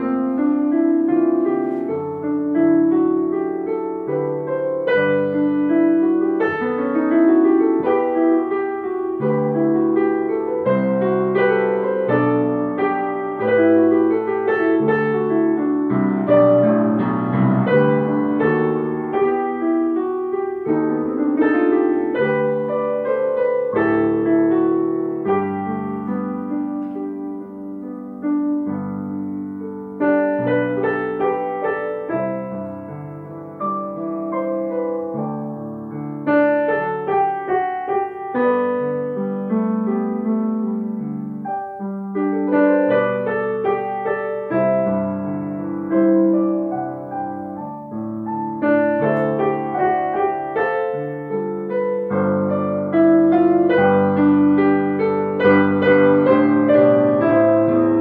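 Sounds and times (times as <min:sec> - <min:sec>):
piano playing: 0:00.0 - 0:58.0.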